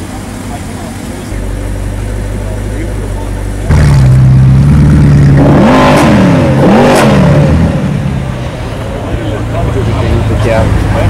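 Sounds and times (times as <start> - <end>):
sports car engine revving: 0.2 - 11.0.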